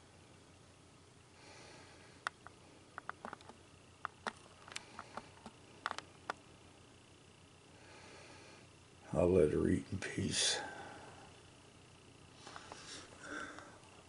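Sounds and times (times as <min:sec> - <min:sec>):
low hiss: 0:00.0 - 0:14.0.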